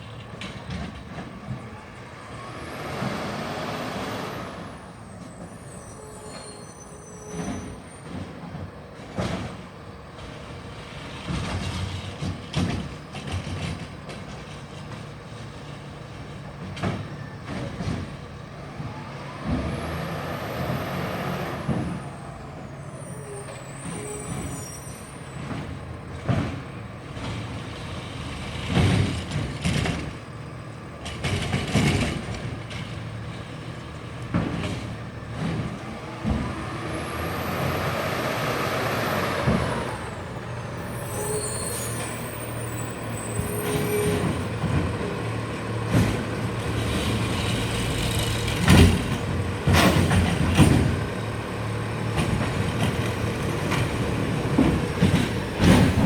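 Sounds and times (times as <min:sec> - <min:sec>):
garbage truck engine humming: 0:07.1 - 0:56.0.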